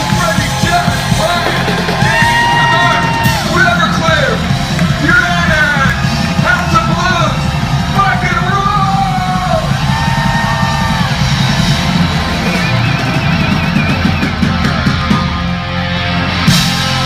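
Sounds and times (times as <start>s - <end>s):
distorted electric guitars: 0.0s - 17.0s
drums: 0.0s - 17.0s.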